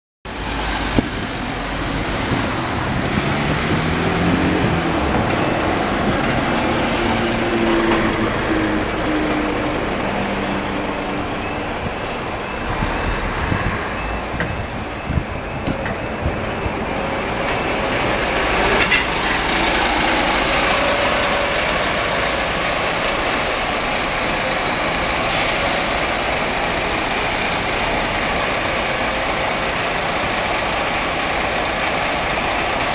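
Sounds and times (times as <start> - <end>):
road traffic rumble: 0.3 - 32.9.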